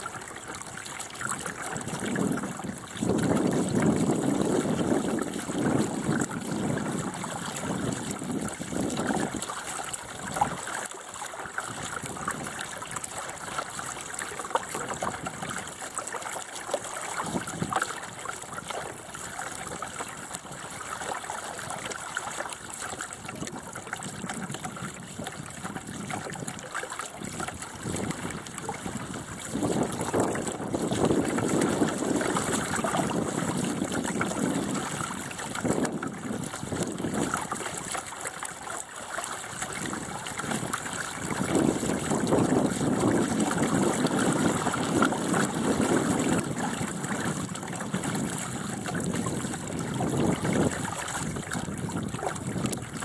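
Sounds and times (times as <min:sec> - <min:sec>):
water rushing along a boat hull: 0:00.0 - 0:53.0.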